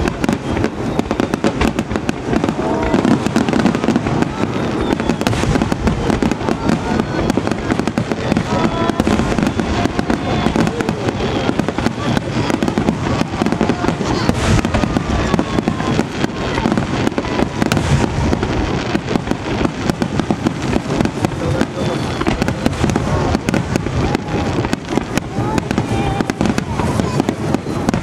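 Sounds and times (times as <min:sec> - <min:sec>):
firework shells bursting: 0:00.0 - 0:28.0.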